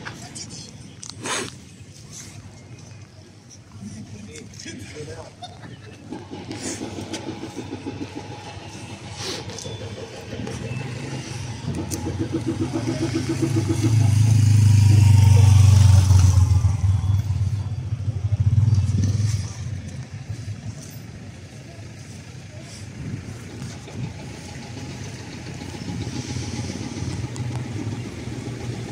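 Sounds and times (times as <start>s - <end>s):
vehicles passing: 0.0s - 28.9s.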